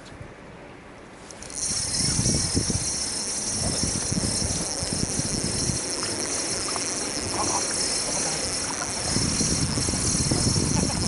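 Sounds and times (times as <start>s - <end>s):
wind buffeting microphone: 1.4s - 11.0s.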